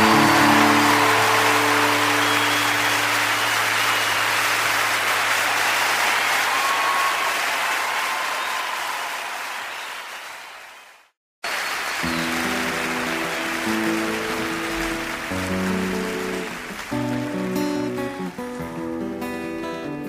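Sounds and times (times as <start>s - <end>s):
audience applause: 0.0s - 19.7s.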